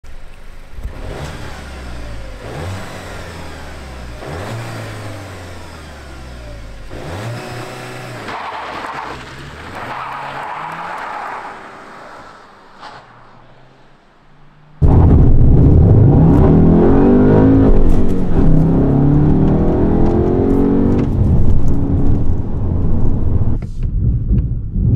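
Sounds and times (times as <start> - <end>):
tyre and road noise: 0.0 - 24.9
car pulling away: 0.5 - 23.6
car engine revving: 0.8 - 24.9.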